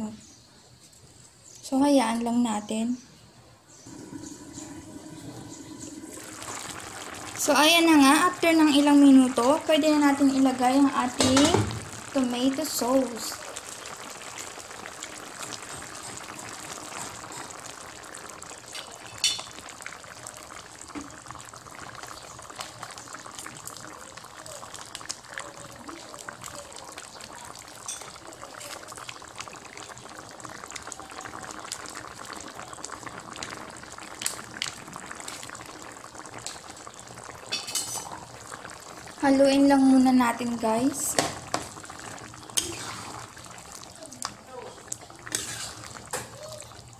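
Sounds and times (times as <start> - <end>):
broth bubbling in a pan: 3.7 - 46.9.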